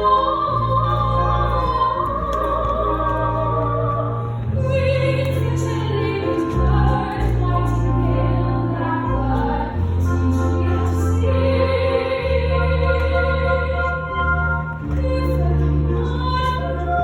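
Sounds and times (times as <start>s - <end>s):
instrumental accompaniment: 0.0s - 17.0s
sustained bass line: 0.0s - 17.0s
woman singing: 0.0s - 17.0s.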